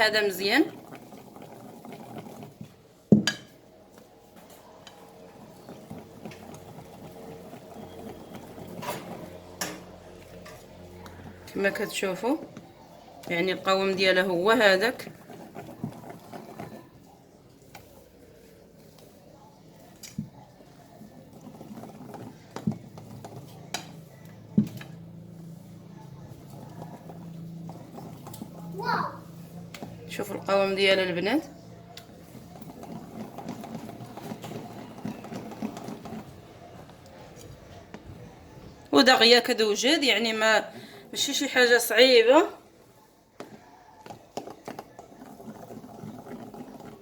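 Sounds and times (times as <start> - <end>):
batter mixed in a bowl: 0.0 - 47.0.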